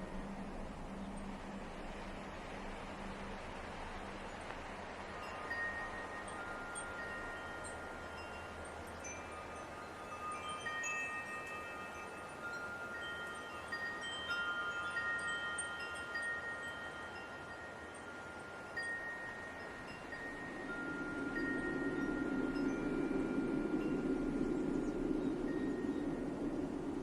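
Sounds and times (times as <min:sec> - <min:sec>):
light wind hiss: 0:00.0 - 0:27.0
wind chimes ringing: 0:04.3 - 0:26.9.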